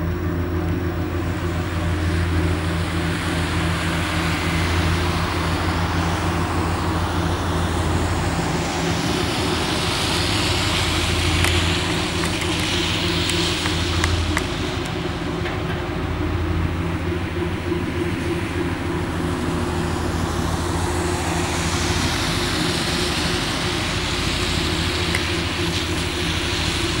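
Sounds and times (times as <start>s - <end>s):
traffic noise hiss: 0.0s - 27.0s
tugboat engine droning: 0.0s - 27.0s.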